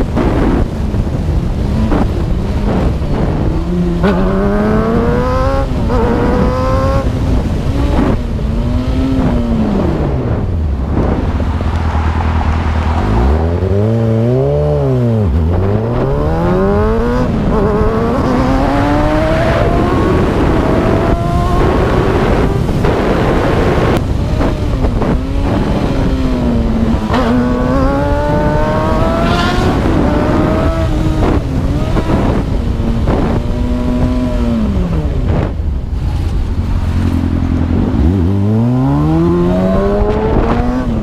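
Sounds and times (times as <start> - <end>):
motorcycle engine accelerating: 0.0 - 41.0
wind and road noise: 0.0 - 41.0.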